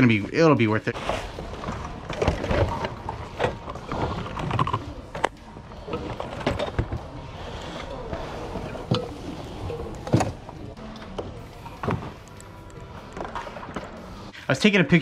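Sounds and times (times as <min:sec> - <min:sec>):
items clicking and knocking: 0:01.0 - 0:14.3.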